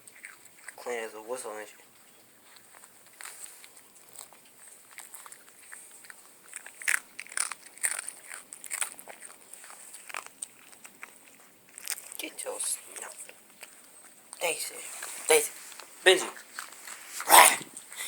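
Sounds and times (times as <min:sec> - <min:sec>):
dog crunching a hard cookie: 0:00.0 - 0:18.0.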